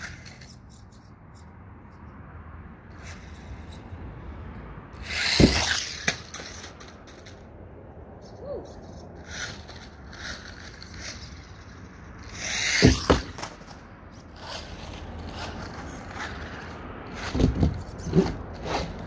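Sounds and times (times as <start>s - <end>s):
rc car motor whirring: 0.0s - 1.5s, 2.9s - 3.9s, 4.9s - 7.5s, 8.6s - 19.0s
tyres scraping on concrete: 0.0s - 7.6s, 8.2s - 19.0s.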